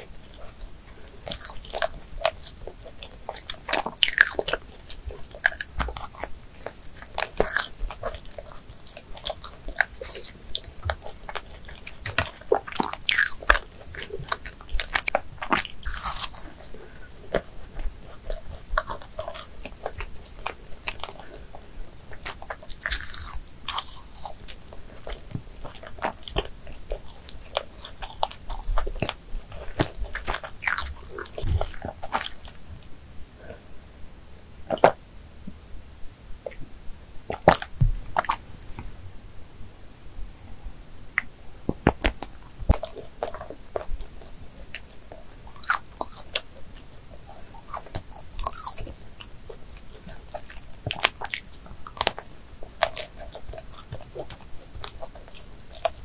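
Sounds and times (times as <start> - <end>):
sticky mouth clicks and smacks: 0.0 - 32.9, 41.2 - 56.0
chewing doughnut: 0.0 - 33.6, 34.7 - 35.0, 37.3 - 38.5, 41.2 - 56.0.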